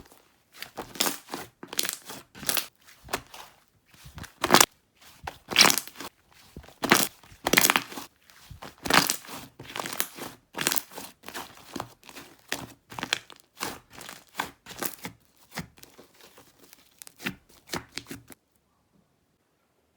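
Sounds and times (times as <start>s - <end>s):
slime being squished by hand: 0.0s - 18.4s.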